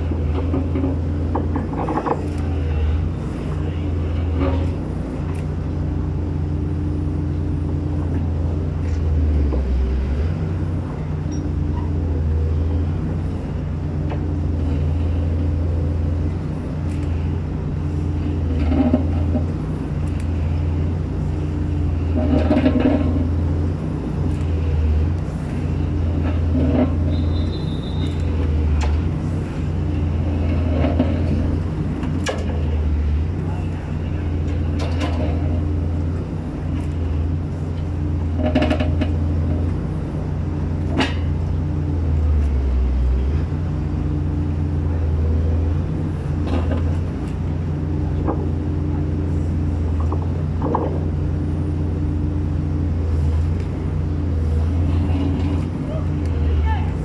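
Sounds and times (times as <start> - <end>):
pile driver engine drone: 0.0 - 57.0.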